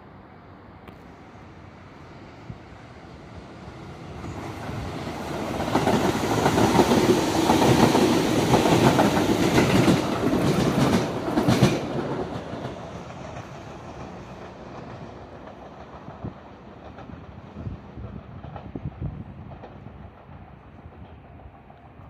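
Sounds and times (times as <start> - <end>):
train wheels clicking over rail joints: 4.3 - 22.0.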